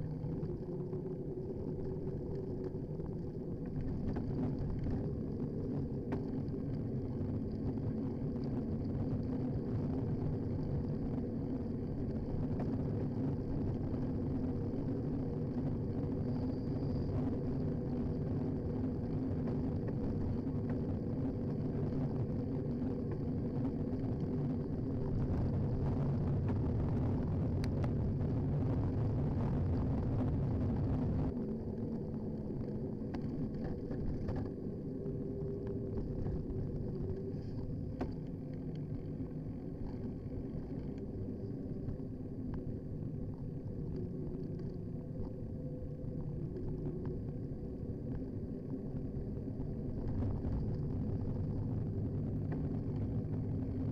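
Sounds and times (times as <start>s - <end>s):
road rumble: 0.0s - 53.9s
wind noise: 0.0s - 53.9s.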